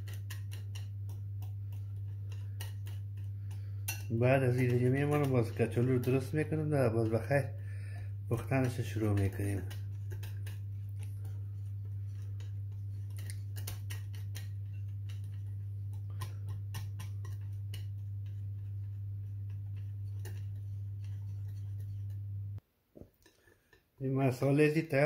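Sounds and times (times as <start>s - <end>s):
whisk clicking against glass bowl: 0.0s - 22.2s
steady low hum: 0.0s - 22.6s.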